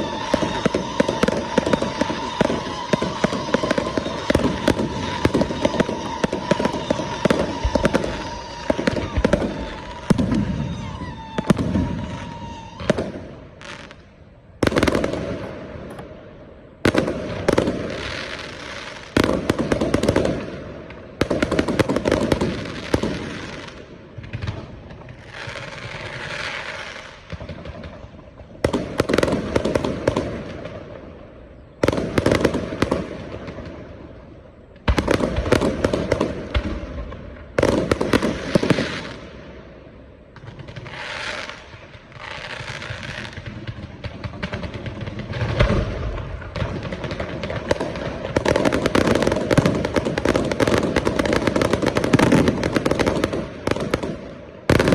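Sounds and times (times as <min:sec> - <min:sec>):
firework crackle: 0:00.0 - 0:54.9.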